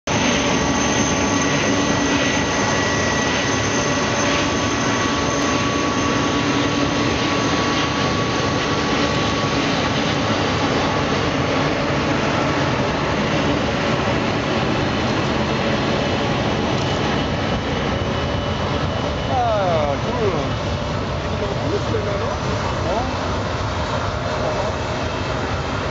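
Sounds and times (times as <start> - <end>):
jet engines rushing: 0.0 - 25.9.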